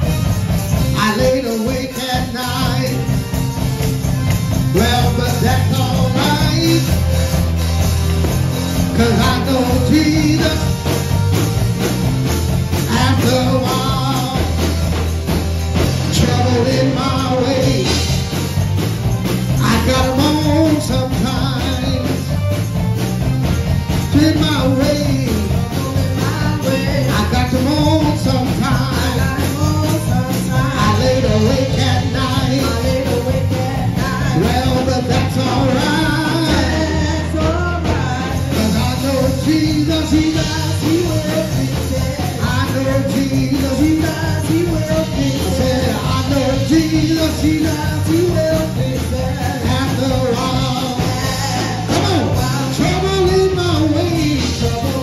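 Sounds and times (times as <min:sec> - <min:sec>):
person singing: 0:00.0 - 0:07.5, 0:08.3 - 0:11.8, 0:12.5 - 0:22.7, 0:23.8 - 0:55.0
gospel band playing: 0:00.0 - 0:55.0.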